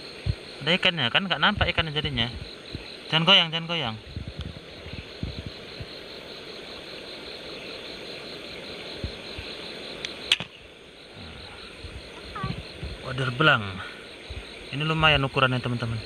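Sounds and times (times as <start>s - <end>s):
steady underwater hiss: 0.0s - 16.0s.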